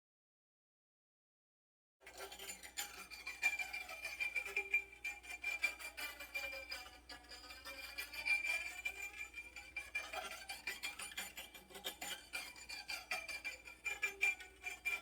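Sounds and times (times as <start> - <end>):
rasping scraping string strokes: 2.1 - 15.0.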